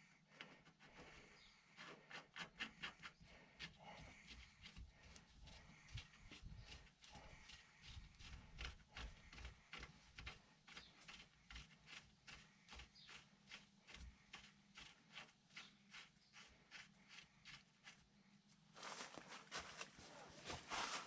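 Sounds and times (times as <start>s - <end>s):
hand scraping on metal: 0.3s - 18.1s.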